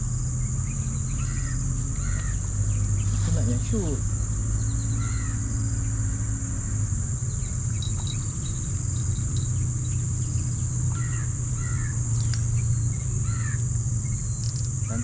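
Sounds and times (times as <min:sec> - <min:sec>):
insect drone: 0:00.0 - 0:15.0
low steady rumble: 0:00.0 - 0:15.0.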